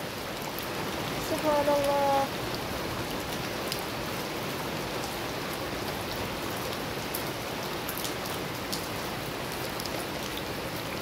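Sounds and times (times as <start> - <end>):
heavy rain on floodwater: 0.0 - 11.0.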